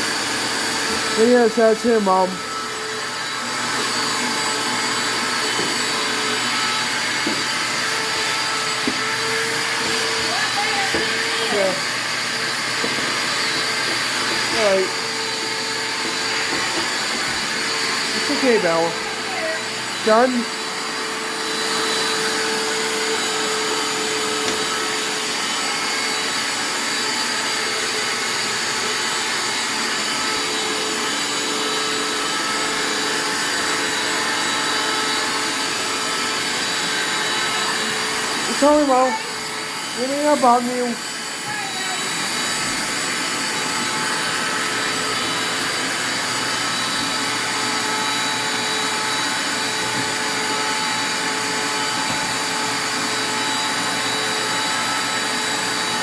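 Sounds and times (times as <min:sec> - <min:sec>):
shop vac motor whining: 0:00.0 - 0:56.0.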